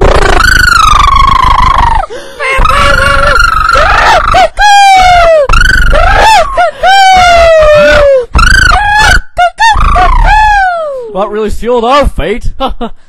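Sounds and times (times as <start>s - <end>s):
person squealing high-pitched: 0.0s - 11.2s.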